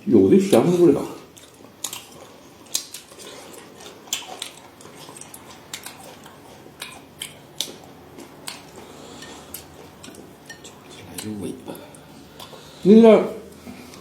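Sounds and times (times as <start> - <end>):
person chewing crunchy food: 1.2 - 12.8.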